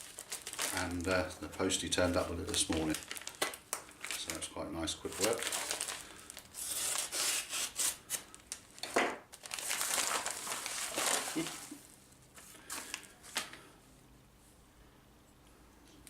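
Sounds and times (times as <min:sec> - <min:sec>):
packaging crinkling and tearing: 0:00.0 - 0:13.6.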